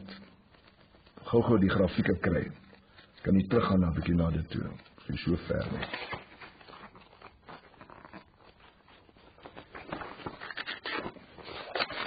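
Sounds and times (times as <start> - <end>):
book pages rustling: 0.0 - 12.0.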